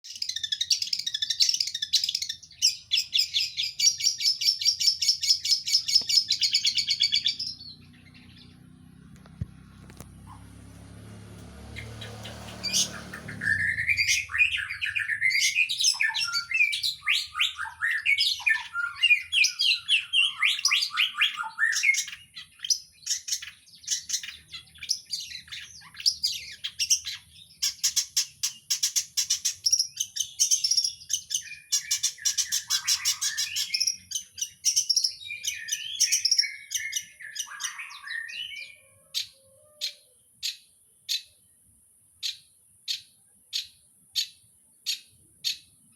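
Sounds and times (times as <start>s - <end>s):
bird singing varied song: 0.0s - 10.5s, 11.1s - 45.9s.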